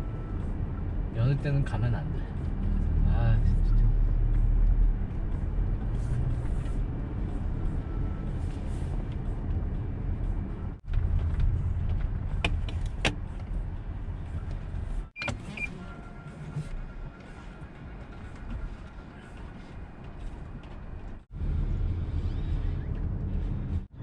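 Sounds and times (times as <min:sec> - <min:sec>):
road rumble inside car: 0:00.0 - 0:24.0.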